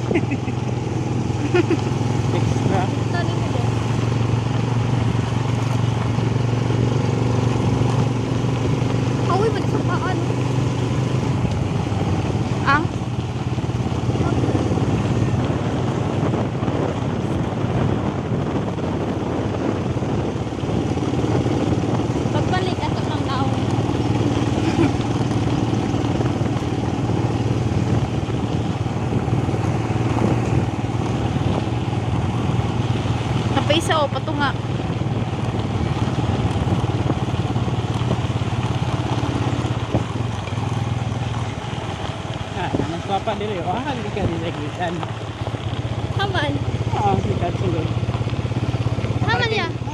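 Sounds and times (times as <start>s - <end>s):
motorbike engine running: 0.0s - 49.9s
wind buffeting microphone: 0.0s - 49.9s.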